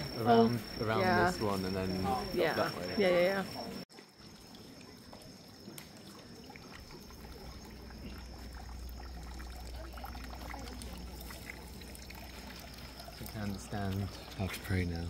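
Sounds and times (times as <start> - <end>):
water pouring into stone basin: 0.0 - 15.0.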